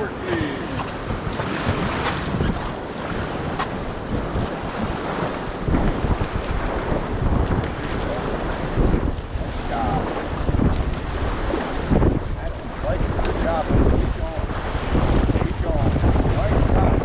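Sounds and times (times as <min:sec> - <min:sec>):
river water rushing and splashing: 0:00.0 - 0:15.4
wind buffeting microphone: 0:00.0 - 0:17.0.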